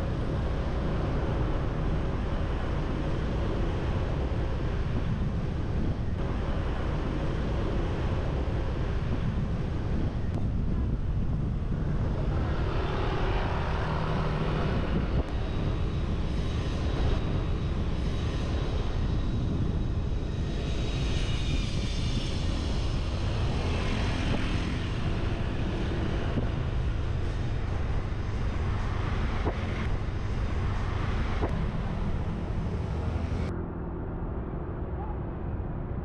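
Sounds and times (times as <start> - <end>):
road noise: 0.0 - 36.0
surrounding traffic: 0.0 - 36.0
wind rumbling on microphone: 0.0 - 36.0.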